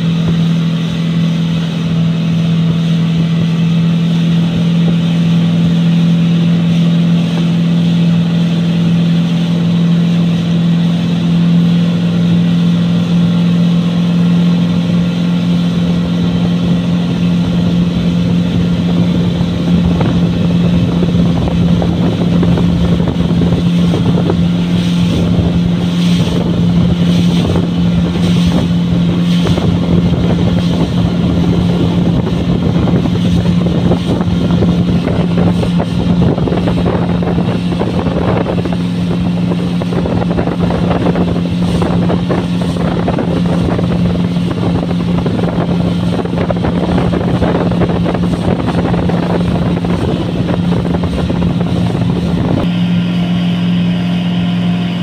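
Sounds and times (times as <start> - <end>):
outboard motor droning: 0.0 - 55.0
water rushing: 0.0 - 55.0
wind noise: 0.0 - 55.0.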